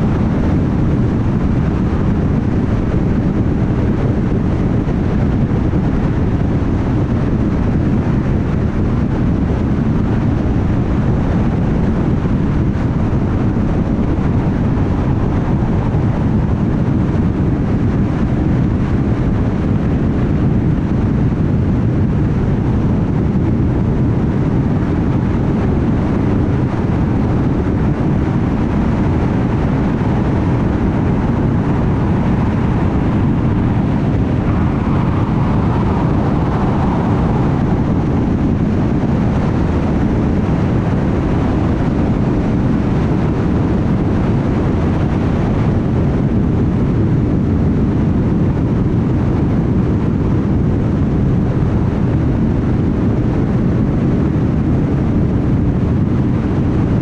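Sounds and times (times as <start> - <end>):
car road noise at highway speed: 0.0 - 57.0.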